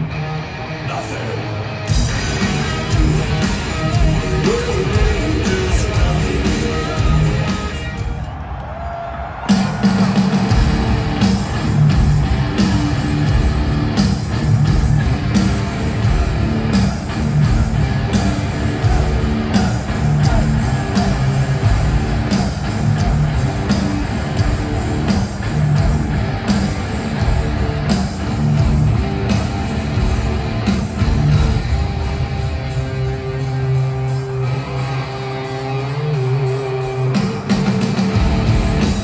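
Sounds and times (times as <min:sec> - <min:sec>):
distorted electric guitars: 0:00.0 - 0:08.3, 0:09.6 - 0:39.0
drums with steady beat: 0:01.9 - 0:08.3, 0:09.4 - 0:39.0.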